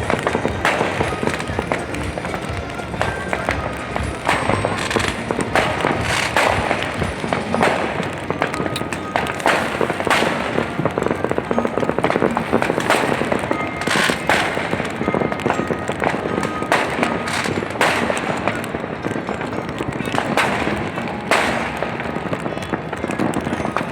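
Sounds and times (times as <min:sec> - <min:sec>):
fireworks bangs and crackling: 0:00.0 - 0:23.9
music playing: 0:00.0 - 0:23.9.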